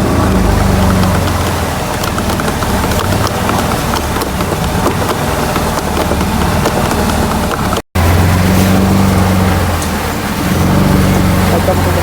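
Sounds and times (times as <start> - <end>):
motorboat engine running: 0.0 - 12.0
wind and water rushing: 0.0 - 12.0.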